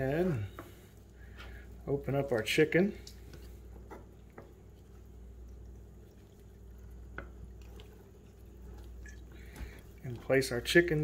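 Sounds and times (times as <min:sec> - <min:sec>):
steady low hum: 0:00.0 - 0:11.0
wet handling of raw chicken: 0:00.1 - 0:11.0.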